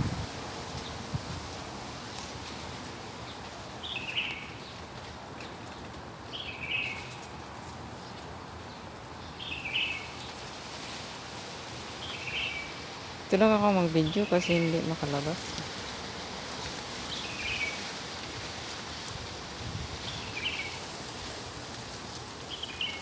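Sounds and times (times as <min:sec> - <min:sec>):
wind hiss: 0:00.0 - 0:05.4, 0:06.9 - 0:23.0.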